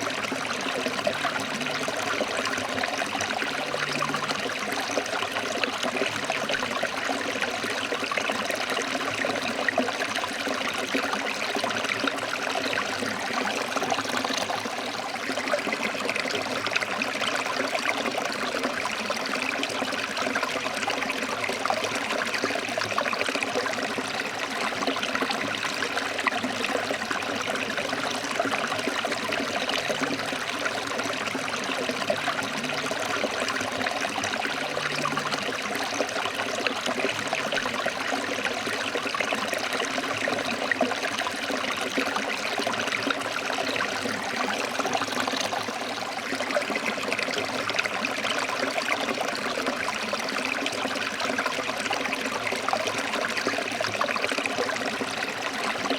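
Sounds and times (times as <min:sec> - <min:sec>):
stream water splashing over rocks: 0:00.0 - 0:55.9.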